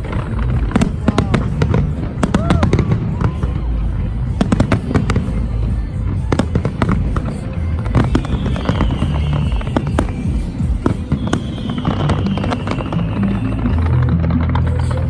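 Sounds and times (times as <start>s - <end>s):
fireworks banging and crackling: 0.0s - 15.0s
music playing: 0.0s - 15.0s.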